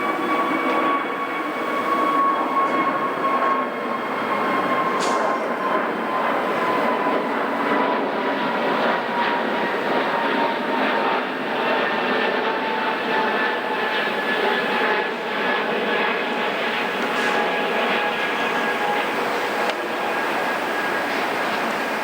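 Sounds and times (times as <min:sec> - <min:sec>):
aircraft engine passing: 0:00.0 - 0:22.0.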